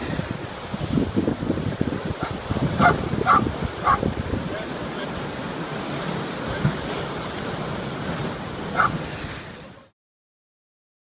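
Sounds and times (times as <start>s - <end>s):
wind buffeting microphone: 0.0s - 9.6s
surf crashing against sea wall: 0.0s - 9.9s.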